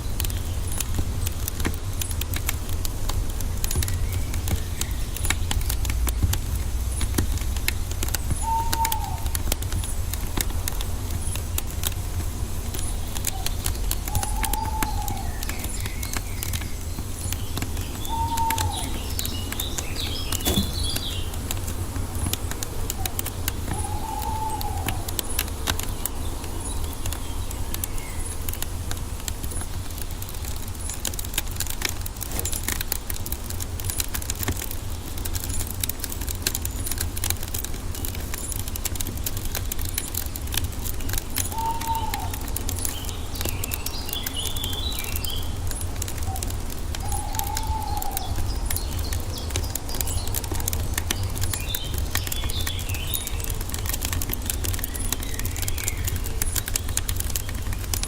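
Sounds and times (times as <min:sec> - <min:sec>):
birds chirping: 0:00.0 - 0:58.0
wood fire crackling: 0:00.0 - 0:58.0.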